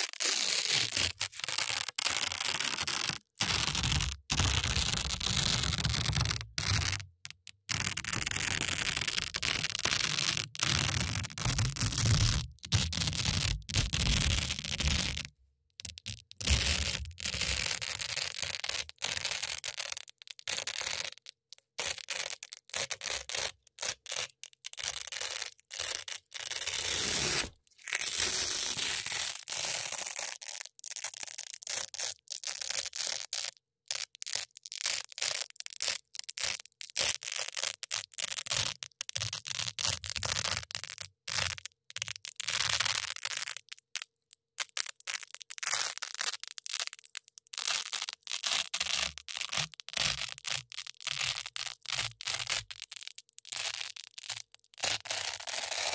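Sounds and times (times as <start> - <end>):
velcro strips scratching: 0.0 - 15.3, 15.9 - 55.9.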